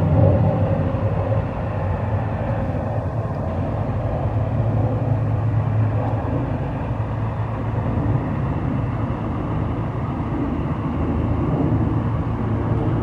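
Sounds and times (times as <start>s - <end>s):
jet airliner rumbling overhead: 0.0s - 13.0s.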